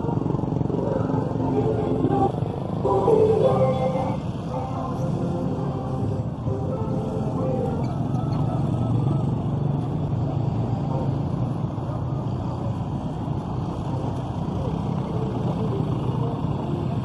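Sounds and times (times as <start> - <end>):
motorcycle engines at low speed: 0.0 - 17.0.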